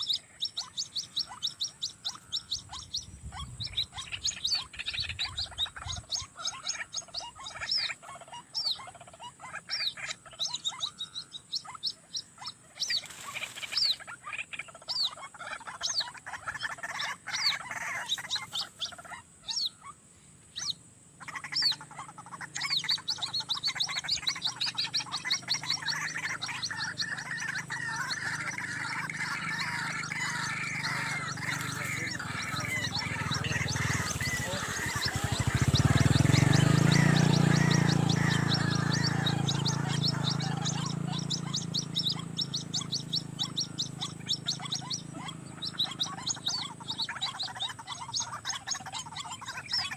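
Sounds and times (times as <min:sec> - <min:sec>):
waterhens calling: 0:00.0 - 0:49.9.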